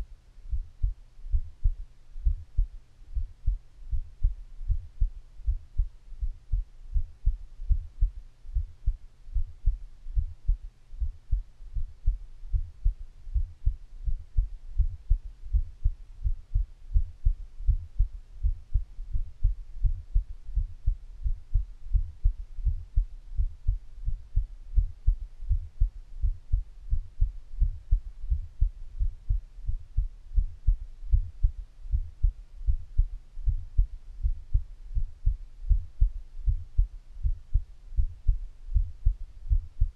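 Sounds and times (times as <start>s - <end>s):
heartbeat low dull thumps: 0.0s - 39.9s.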